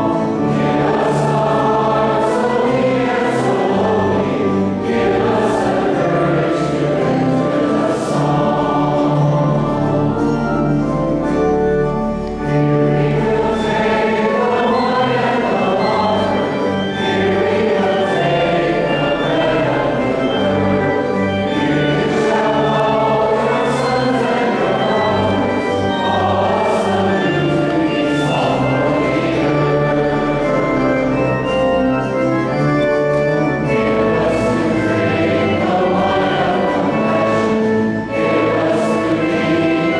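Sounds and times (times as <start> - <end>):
choir singing a hymn: 0.0 - 39.9
low sustained accompanying notes: 0.0 - 39.9.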